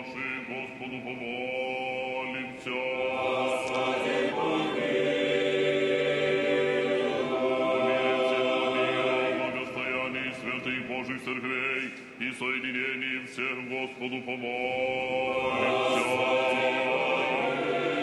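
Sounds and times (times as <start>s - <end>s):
choir singing a chant: 0.0s - 18.0s.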